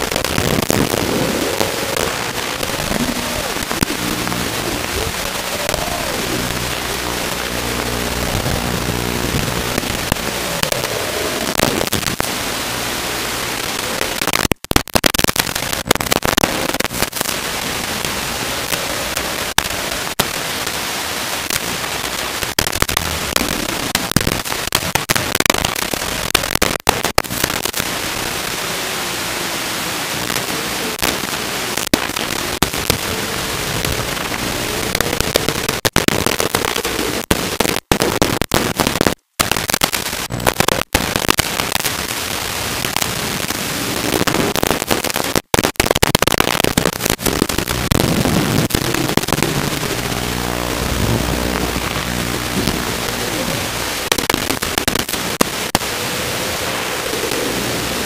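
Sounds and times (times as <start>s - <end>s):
radio static hiss with crackles: 0.0s - 58.0s.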